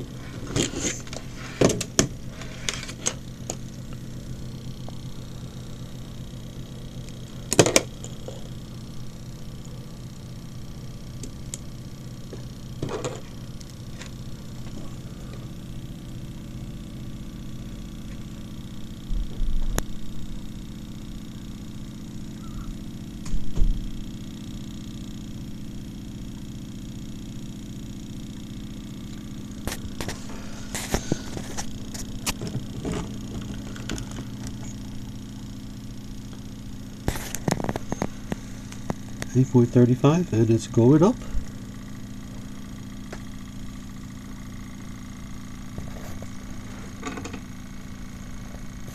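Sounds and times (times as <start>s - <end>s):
fan motor hum and whir: 0.0s - 48.9s.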